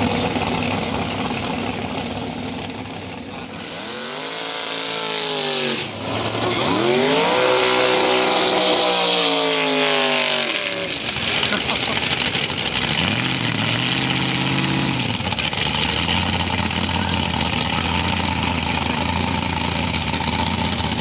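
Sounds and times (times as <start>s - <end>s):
vehicle engine accelerating hard: 0.0s - 21.0s.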